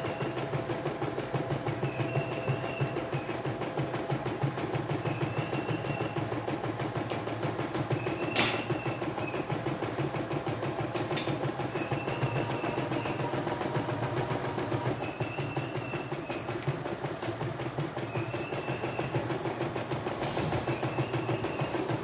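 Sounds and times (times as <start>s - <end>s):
embroidery machine stitching: 0.0s - 22.0s.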